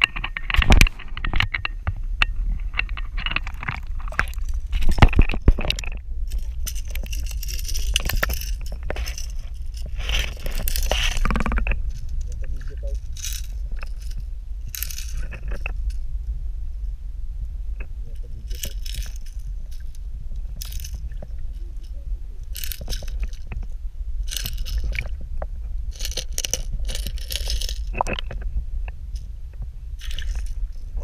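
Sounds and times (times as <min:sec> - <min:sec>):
low rumble of water: 0:00.0 - 0:31.0.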